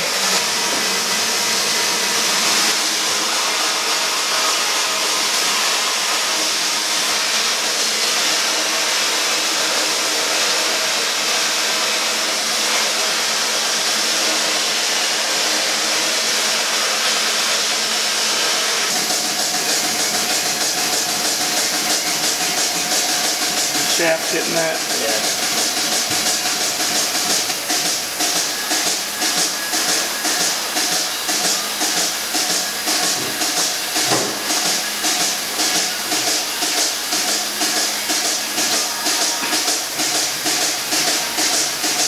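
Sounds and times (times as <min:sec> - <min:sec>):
hissing machine noise: 0:00.0 - 0:42.0.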